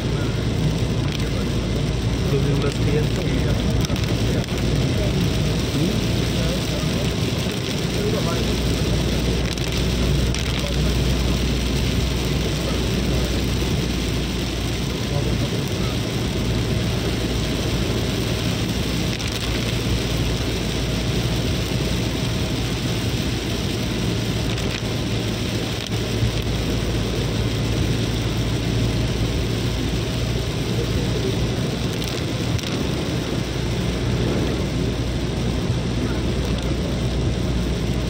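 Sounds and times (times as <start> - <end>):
engine and road rumble: 0.0 - 38.0
heavy rain on a vehicle: 0.0 - 38.0.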